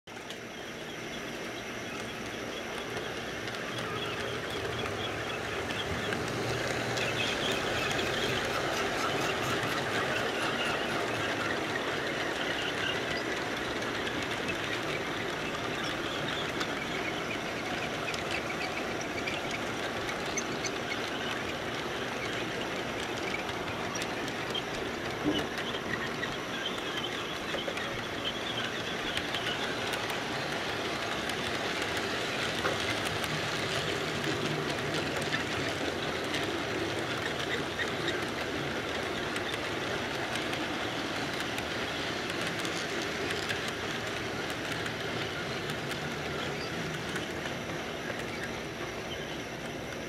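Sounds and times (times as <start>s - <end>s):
model train whirring on track: 0.1s - 50.0s.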